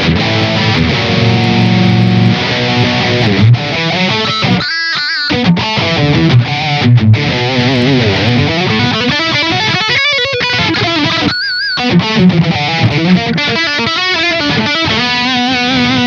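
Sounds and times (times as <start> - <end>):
electric guitar with vibrato: 0.0 - 16.0.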